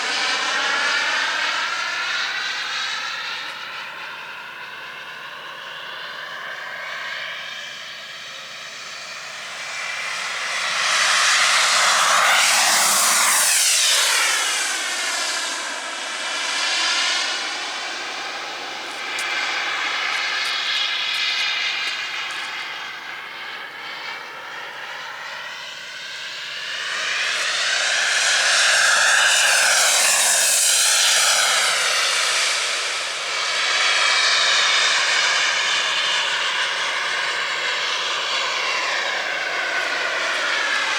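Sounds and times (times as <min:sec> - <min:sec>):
model jet turbine passing by: 0:00.0 - 0:40.9.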